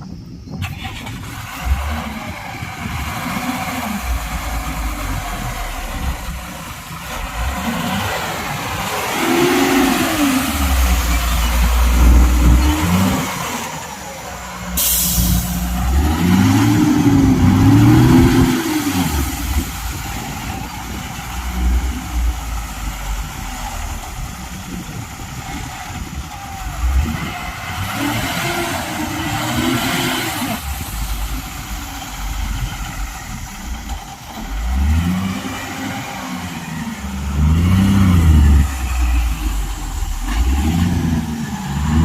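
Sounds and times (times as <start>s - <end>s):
heavy diesel engine revving: 0.6s - 42.0s.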